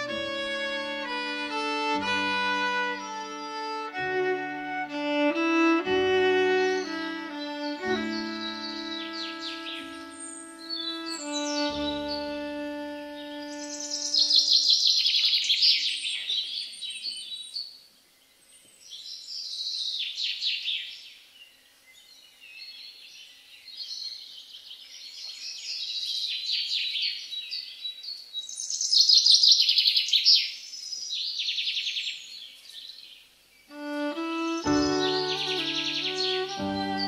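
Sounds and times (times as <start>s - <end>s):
recorded birdsong over speakers: 0.0s - 37.0s.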